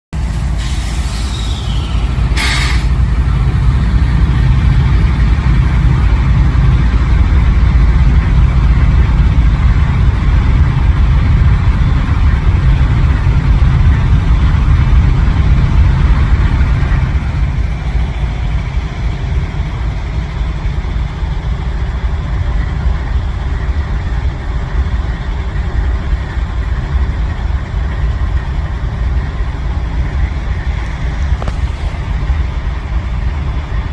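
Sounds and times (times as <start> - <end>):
diesel locomotive engine rumbling: 0.1 - 33.9.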